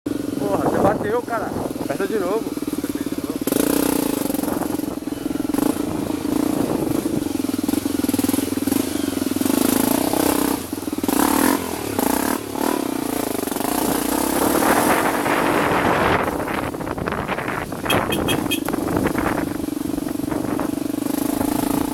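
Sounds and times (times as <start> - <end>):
motocross bike engine revving: 0.1 - 21.9.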